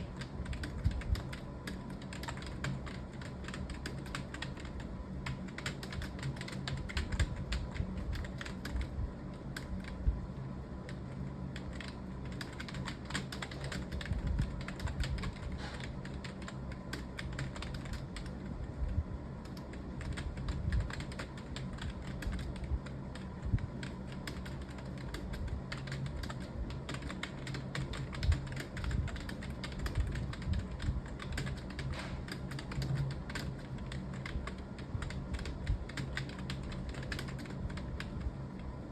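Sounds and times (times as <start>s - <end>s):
fast typing on keyboard: 0.0s - 10.2s, 10.8s - 18.5s, 19.4s - 38.3s.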